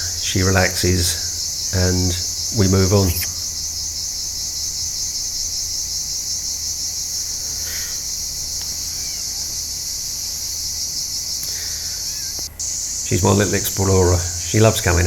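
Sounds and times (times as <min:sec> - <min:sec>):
insects shrilling: 0:00.0 - 0:15.0.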